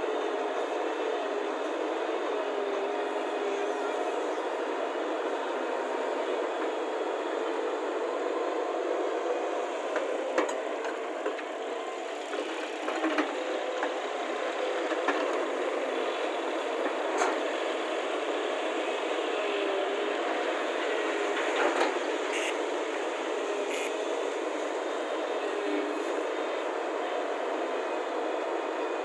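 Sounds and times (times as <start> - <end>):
excavator engine running: 0.1 - 29.0.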